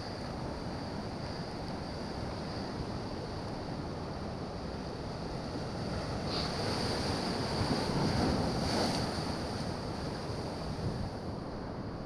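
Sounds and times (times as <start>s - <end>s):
sea surf on rocky shore: 0.0s - 12.0s.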